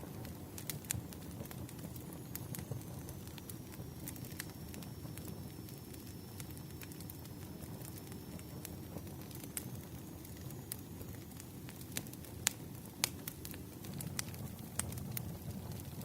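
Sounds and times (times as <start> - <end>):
firewood crackling: 0.0 - 16.0.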